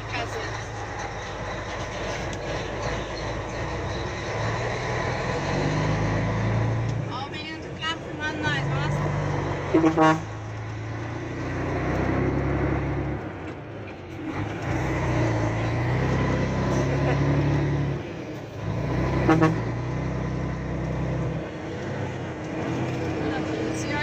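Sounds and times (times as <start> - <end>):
diesel truck engine pulling away: 0.0 - 24.0.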